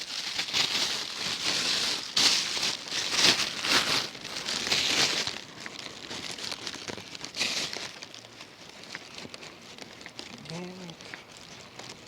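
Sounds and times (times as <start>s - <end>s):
crinkling rustle: 0.0s - 12.0s.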